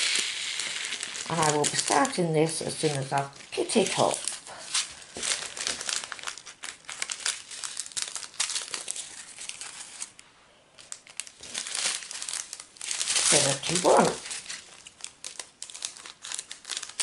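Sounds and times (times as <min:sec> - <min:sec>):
foil packets crinkling: 0:00.0 - 0:10.2, 0:10.8 - 0:17.0.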